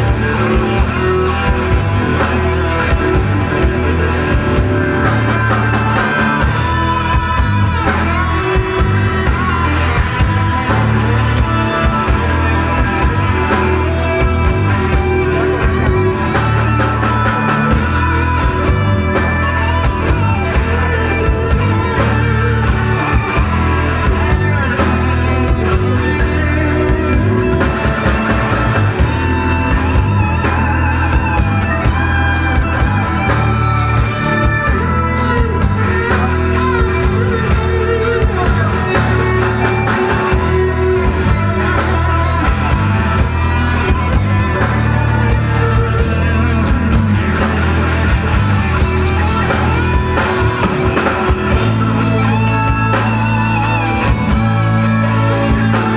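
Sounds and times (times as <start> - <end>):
bass guitar: 0.0 - 55.9
electric guitar lines: 0.0 - 55.9
steady drum beat: 0.0 - 55.9.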